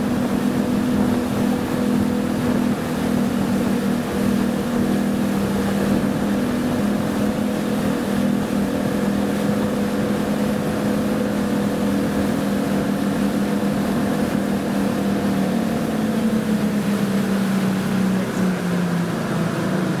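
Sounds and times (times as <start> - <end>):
motorboat engine running: 0.0 - 20.0.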